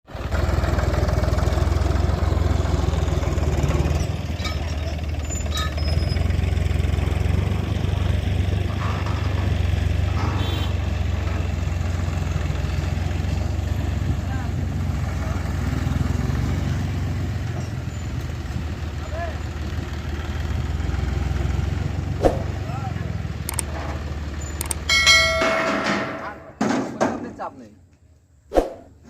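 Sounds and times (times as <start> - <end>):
heavy diesel engine running: 0.1 - 26.2.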